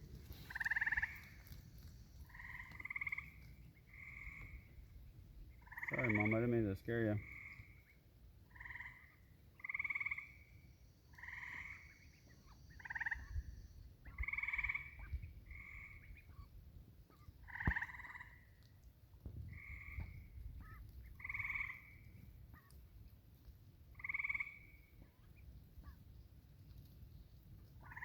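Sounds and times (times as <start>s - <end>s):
frogs trilling: 0.2s - 16.5s, 17.3s - 18.6s, 19.5s - 22.8s, 23.9s - 26.0s, 27.8s - 28.0s.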